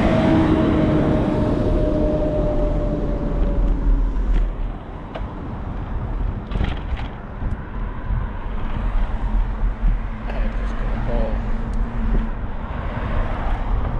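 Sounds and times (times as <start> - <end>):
passing vehicle hum: 0.0 - 13.9
road traffic: 0.0 - 13.9
wind rumble: 0.0 - 13.9.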